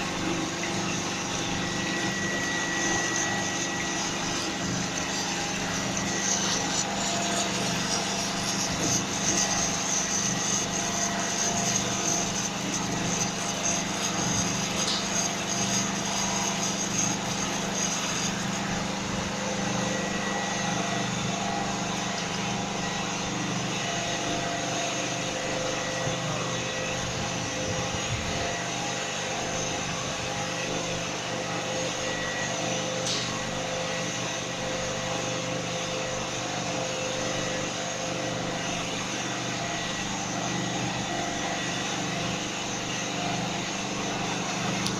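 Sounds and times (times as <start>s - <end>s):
machine humming and whining: 0.0s - 44.9s.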